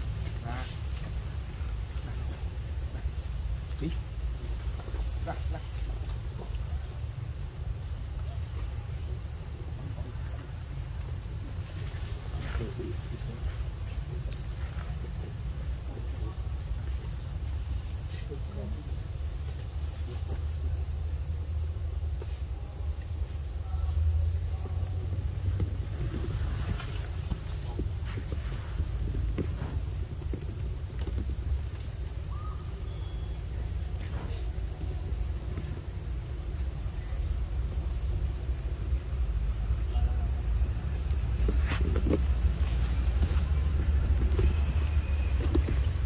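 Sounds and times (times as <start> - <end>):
insect chorus drone: 0.0 - 46.0.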